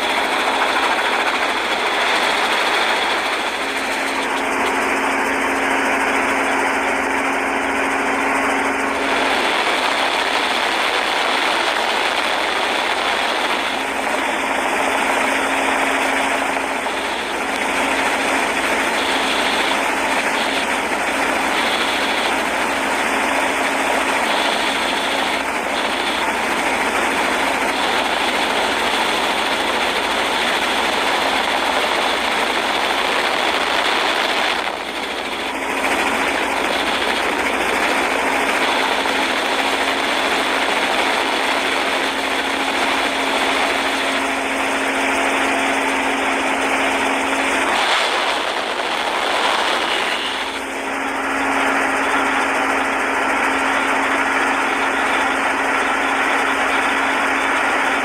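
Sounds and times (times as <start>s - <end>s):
motorboat engine hum: 0.0s - 58.0s
rush of water and wind: 0.0s - 58.0s.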